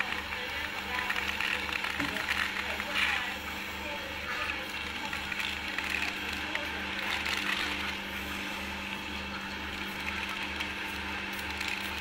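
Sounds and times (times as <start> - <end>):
pellet press machine humming: 0.0 - 12.0.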